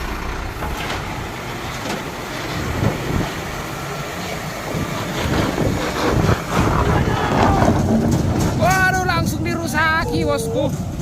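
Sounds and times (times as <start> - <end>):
heavy truck engine climbing: 0.0 - 11.0.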